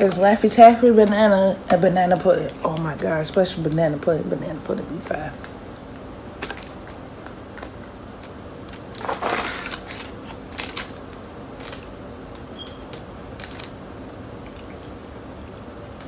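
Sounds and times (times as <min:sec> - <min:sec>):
plastic wrapper crinkling: 0:00.5 - 0:14.7
small crackles: 0:02.0 - 0:14.9.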